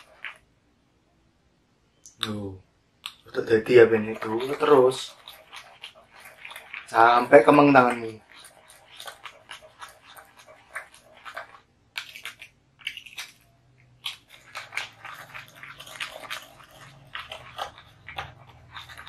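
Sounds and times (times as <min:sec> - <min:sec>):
spoon clicking and scraping bowl: 0:00.0 - 0:00.4, 0:03.0 - 0:19.0.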